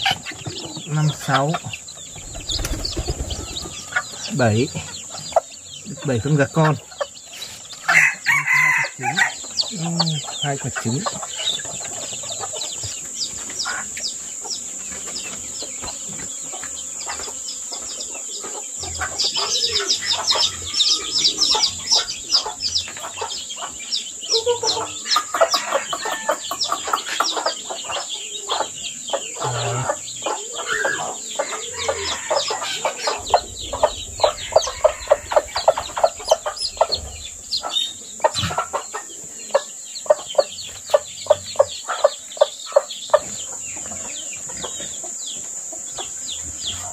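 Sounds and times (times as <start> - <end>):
hen clucking: 0.0 - 15.2, 15.8 - 46.2
chicks peeping: 0.0 - 46.9.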